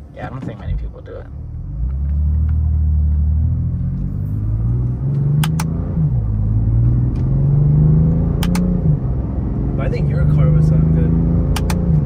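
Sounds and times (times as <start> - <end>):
car engine accelerating: 0.2 - 12.0.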